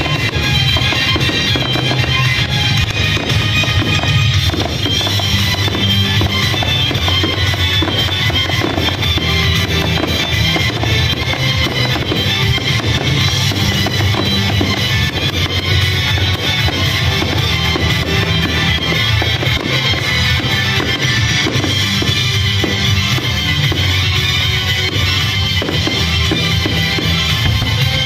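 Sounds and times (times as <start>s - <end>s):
loud rock music: 0.0s - 28.0s.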